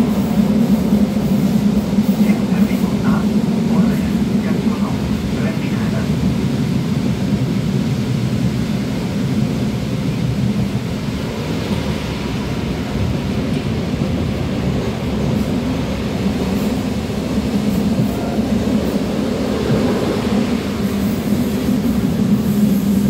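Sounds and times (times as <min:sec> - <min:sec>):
diesel railcar rumbling: 0:00.0 - 0:23.0.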